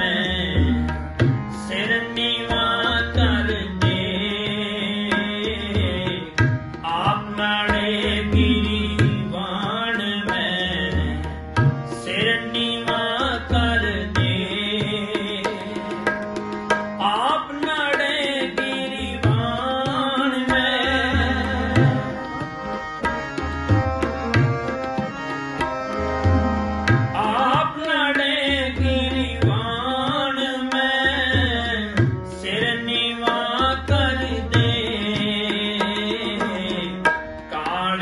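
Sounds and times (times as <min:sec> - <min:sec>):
men singing: 0:00.0 - 0:16.2, 0:17.0 - 0:23.2, 0:27.2 - 0:38.0
harmonium: 0:00.0 - 0:38.0.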